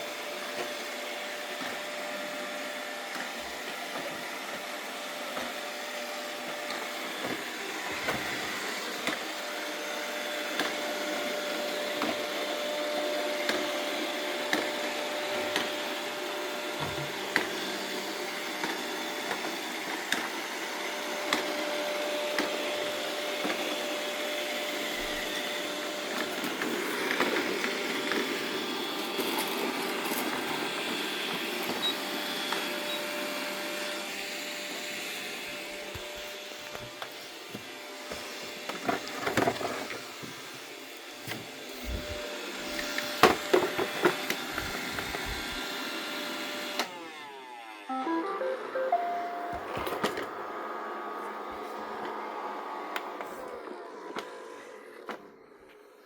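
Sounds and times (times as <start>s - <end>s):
robot vacuum cleaner whine: 0.0s - 56.0s.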